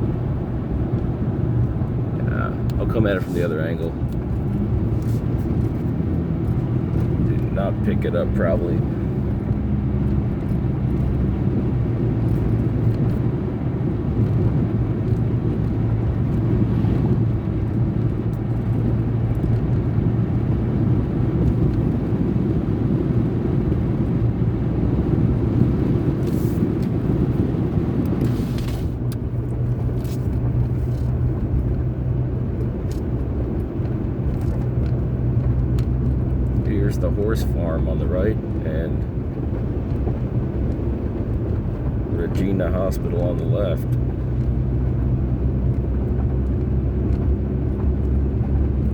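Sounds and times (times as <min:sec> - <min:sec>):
car engine humming: 0:00.0 - 0:48.9
tyres rumbling on road: 0:00.0 - 0:48.9.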